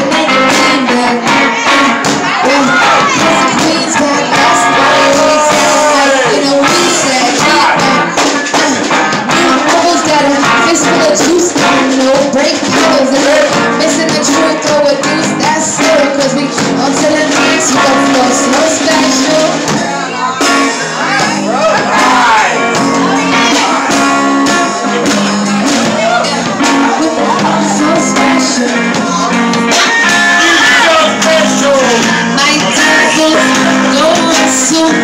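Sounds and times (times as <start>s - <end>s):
drum kit with cymbals: 0.0s - 35.0s
live band music: 0.0s - 35.0s
person singing into microphone: 0.0s - 35.0s.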